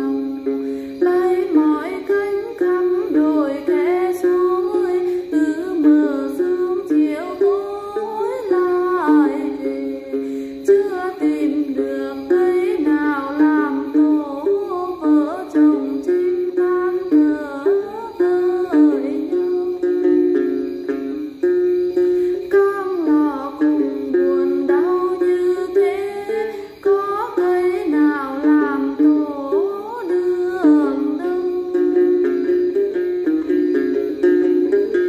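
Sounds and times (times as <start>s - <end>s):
person singing: 0.0s - 21.4s, 22.0s - 35.0s
plucked gourd lute: 0.0s - 35.0s.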